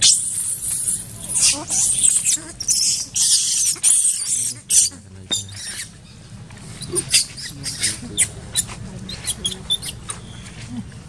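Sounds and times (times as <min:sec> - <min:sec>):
monkeys squeaking and screeching: 0:00.0 - 0:10.6.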